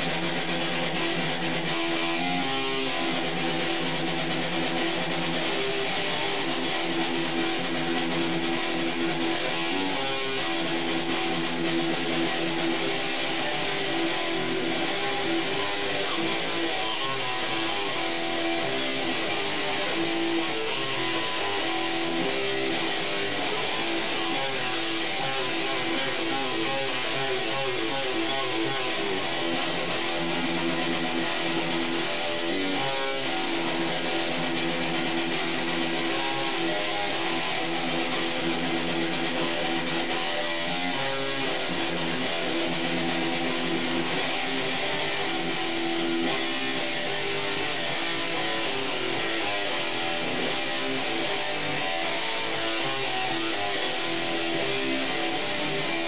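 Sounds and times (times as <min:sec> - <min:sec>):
strummed electric guitar chords: 0:00.0 - 0:56.0.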